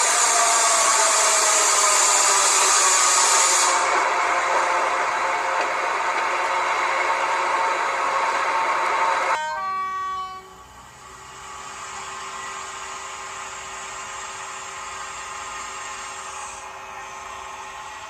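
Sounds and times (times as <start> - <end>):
model locomotive engine sound: 0.0 - 18.0.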